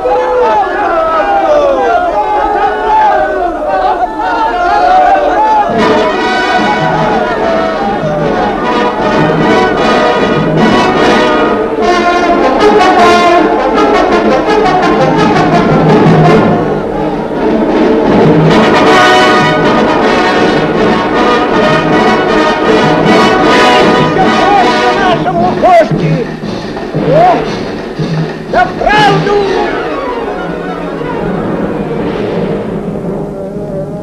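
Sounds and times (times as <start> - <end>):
orchestral music with brass: 3.7 - 34.0.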